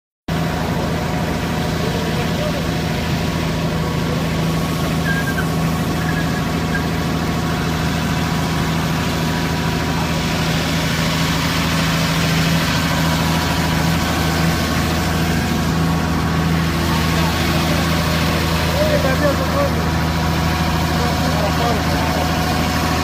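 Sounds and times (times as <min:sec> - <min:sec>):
vehicle engine idling: 0:00.3 - 0:23.0.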